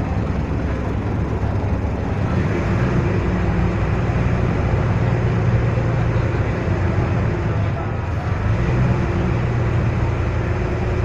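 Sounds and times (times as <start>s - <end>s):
ferry engine droning: 0.0s - 11.0s.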